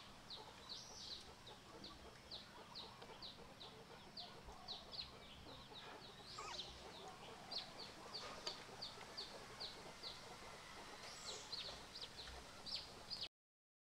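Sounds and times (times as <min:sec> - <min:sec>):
birds chirping: 0:00.0 - 0:13.3
low background noise: 0:00.0 - 0:13.3.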